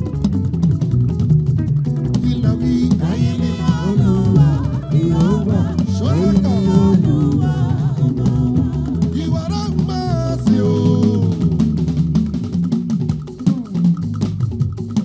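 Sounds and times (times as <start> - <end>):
live gospel band music: 0.0 - 15.0.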